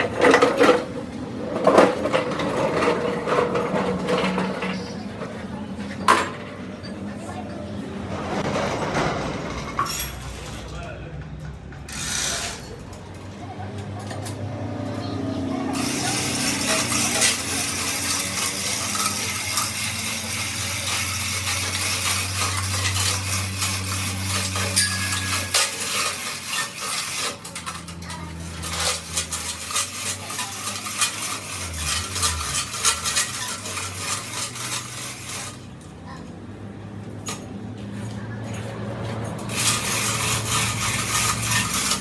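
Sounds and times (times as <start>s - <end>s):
metal scraping with clinks: 0.0s - 11.1s, 11.9s - 13.4s, 15.7s - 36.2s, 37.0s - 42.0s.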